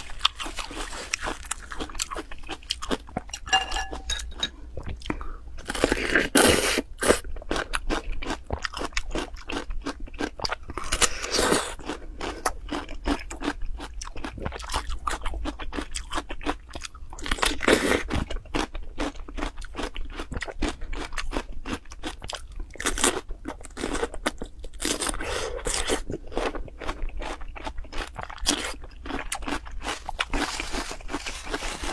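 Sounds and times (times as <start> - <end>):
crunchy food chewing: 0.0 - 4.1, 4.8 - 31.9.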